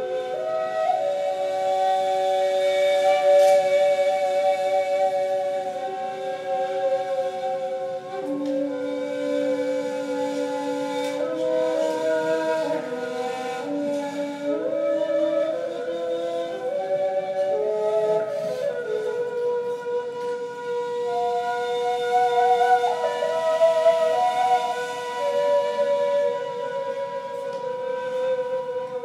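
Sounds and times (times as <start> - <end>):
reed flutes playing duet: 0.0 - 29.0.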